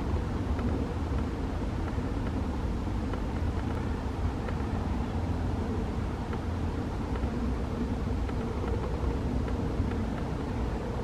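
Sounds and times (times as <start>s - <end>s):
distant jet engines rumbling: 0.0s - 11.0s.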